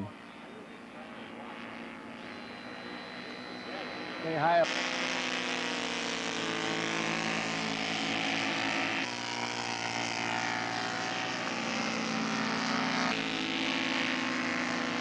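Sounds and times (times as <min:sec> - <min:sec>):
model airplane engines droning: 0:00.0 - 0:15.0.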